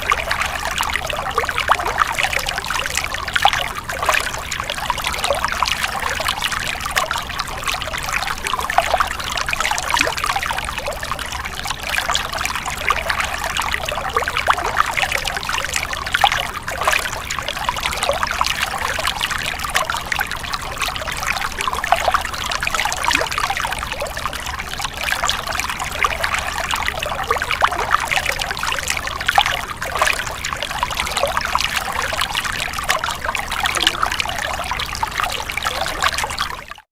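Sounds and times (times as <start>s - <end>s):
stream trickling over stones: 0.0s - 36.9s.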